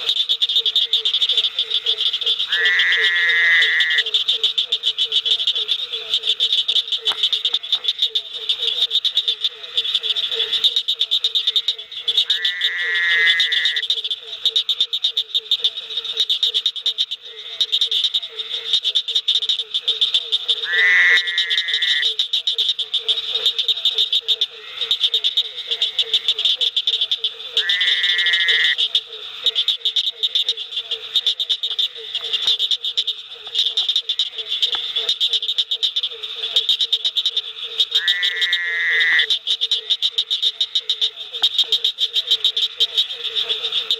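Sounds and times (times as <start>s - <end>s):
frogs calling: 0.0s - 43.9s.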